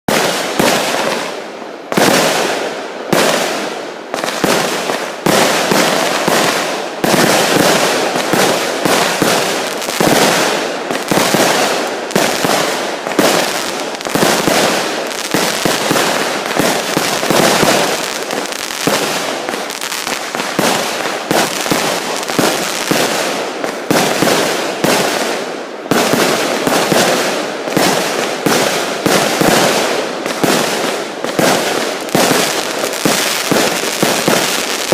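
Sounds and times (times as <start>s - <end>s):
fireworks and firecrackers banging: 0.1s - 34.9s.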